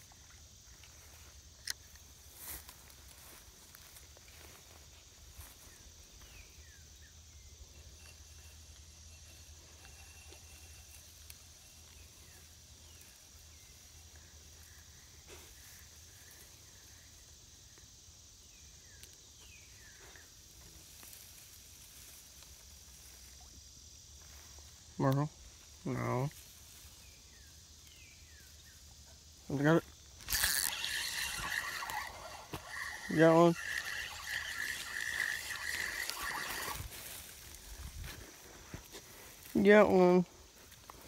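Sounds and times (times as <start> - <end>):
high-pitched insect drone: 0.0 - 41.0
rustle in the grass: 0.0 - 41.0.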